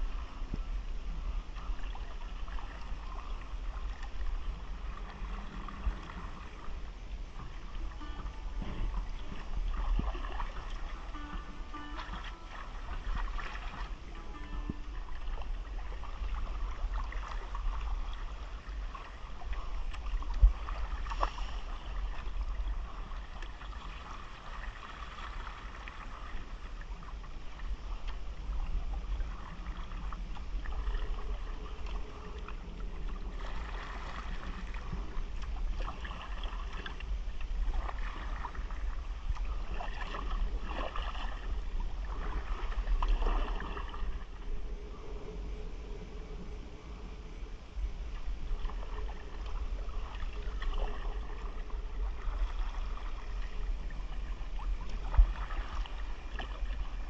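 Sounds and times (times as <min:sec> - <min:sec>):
low rumble: 0:00.0 - 0:57.0
paddle splashing in water: 0:00.0 - 0:57.0.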